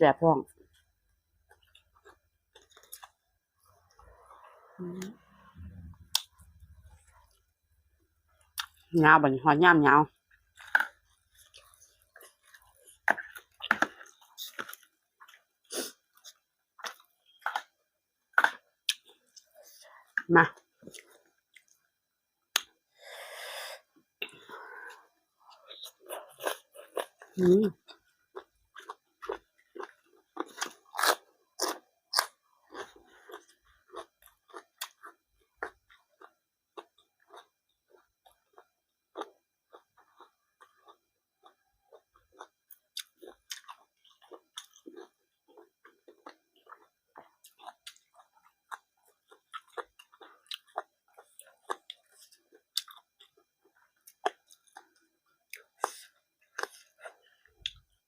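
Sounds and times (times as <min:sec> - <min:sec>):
person chewing food: 0:00.6 - 0:07.5, 0:08.2 - 0:08.9, 0:10.2 - 0:20.2, 0:20.8 - 0:21.9, 0:23.8 - 0:58.0.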